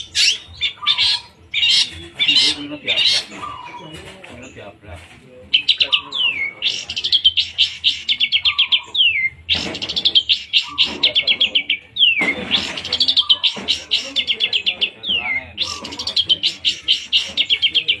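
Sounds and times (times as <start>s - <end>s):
bird singing rapid high notes: 0.0s - 3.8s, 5.5s - 18.0s.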